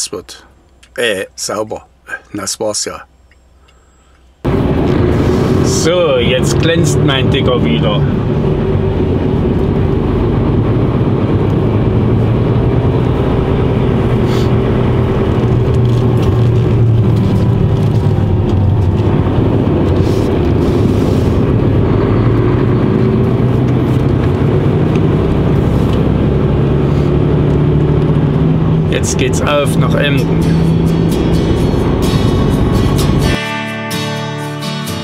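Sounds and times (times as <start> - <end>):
road noise: 2.9 - 33.6
truck diesel engine driving: 4.4 - 33.4.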